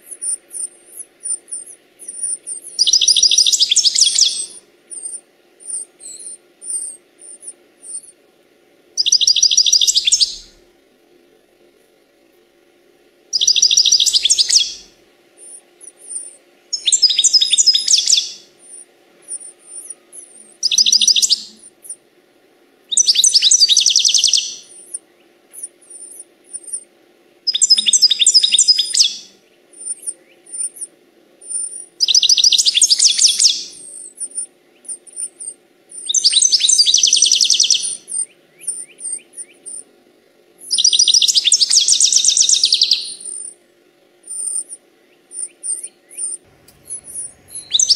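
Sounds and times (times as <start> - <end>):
thin bird chirps: 0.0 - 8.2, 9.0 - 10.6, 13.3 - 22.0, 22.9 - 26.9, 27.5 - 39.9, 40.6 - 43.6, 44.2 - 47.9
goldfinch twittering song: 0.1 - 8.1, 9.0 - 10.5, 13.3 - 14.8, 15.4 - 22.0, 22.9 - 25.0, 27.5 - 39.8, 40.6 - 43.6, 44.3 - 47.9.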